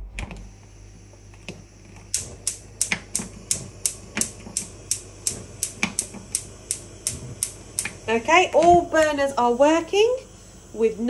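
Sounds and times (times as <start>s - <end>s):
gas hob igniter clicking: 0.0s - 11.0s.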